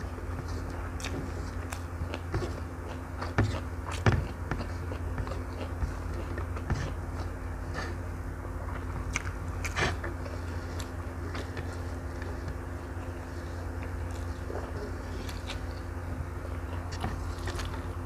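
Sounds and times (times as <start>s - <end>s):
steady low hum: 0.0s - 18.0s
chewing and wet mouth sounds: 0.4s - 18.0s.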